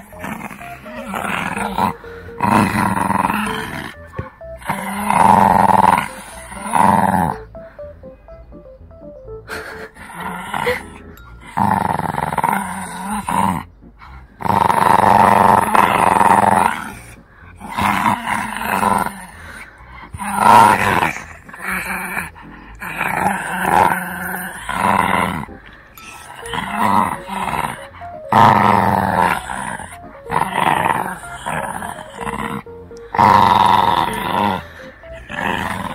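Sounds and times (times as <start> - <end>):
puppy play growling: 0.0 - 7.5, 10.0 - 35.9.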